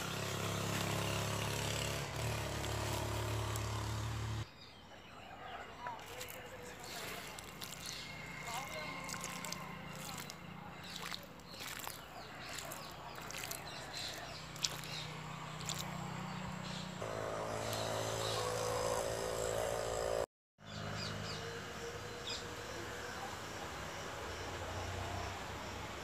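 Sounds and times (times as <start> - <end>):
birds chirping: 0.2 - 25.7.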